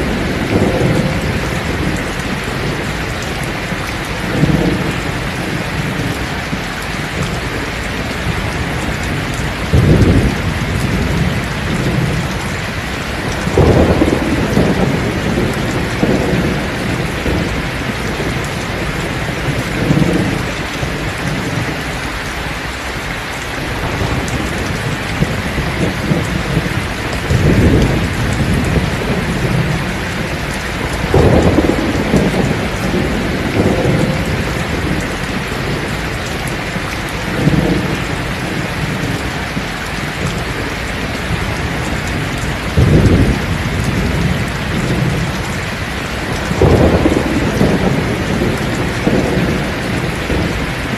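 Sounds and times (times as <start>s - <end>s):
heavy rain falling: 0.0s - 50.9s
thunder rumbling: 0.0s - 50.9s.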